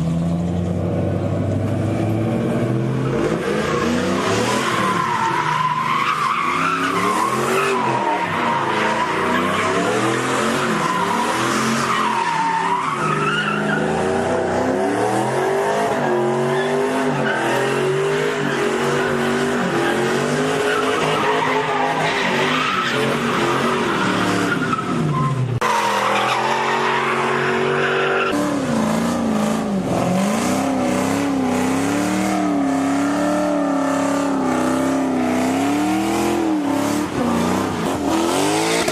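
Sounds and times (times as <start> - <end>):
car engines revving hard: 0.0 - 38.9
tyres squealing and skidding: 2.3 - 38.9.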